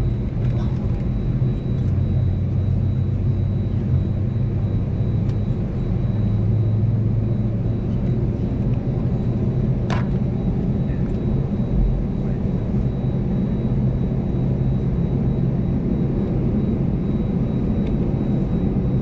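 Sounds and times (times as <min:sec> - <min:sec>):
airplane cabin drone: 0:00.0 - 0:19.0.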